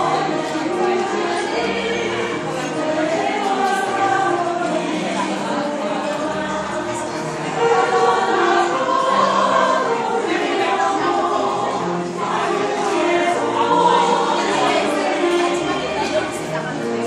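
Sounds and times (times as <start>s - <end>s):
women's choir singing: 0.0s - 17.0s.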